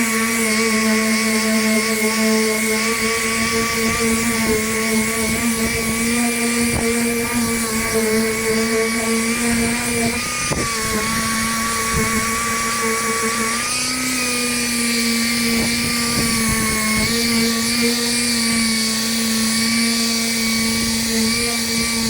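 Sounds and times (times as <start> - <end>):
motor whining: 0.0 - 22.0.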